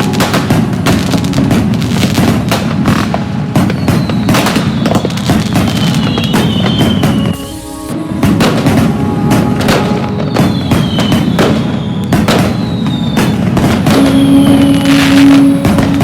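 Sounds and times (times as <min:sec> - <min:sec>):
firecrackers crackling and banging: 0:00.0 - 0:16.0
whistling firework: 0:00.0 - 0:16.0.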